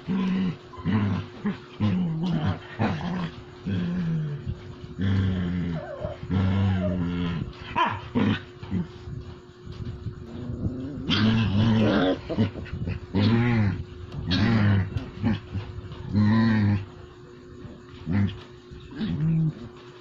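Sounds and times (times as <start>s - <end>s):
dogs growling in play: 0.0s - 20.0s.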